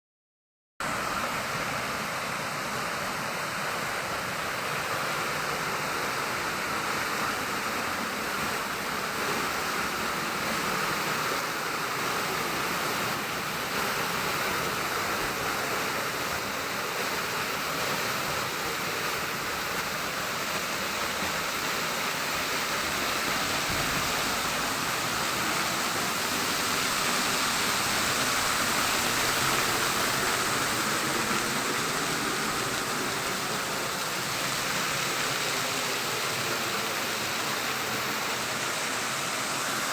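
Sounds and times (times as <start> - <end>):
rushing water: 0.8 - 39.9.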